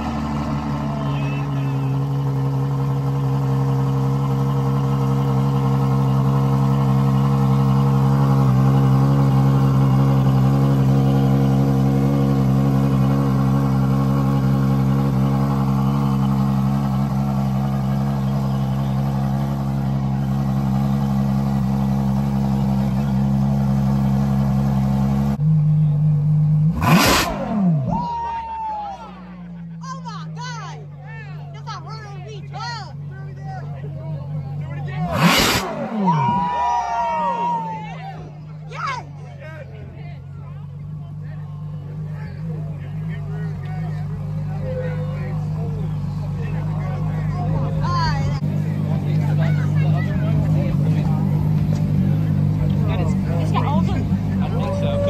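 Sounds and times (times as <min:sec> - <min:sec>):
engine revving: 0:00.0 - 0:28.1, 0:34.4 - 0:37.6, 0:41.0 - 0:55.0
car engine idling high: 0:00.0 - 0:55.0.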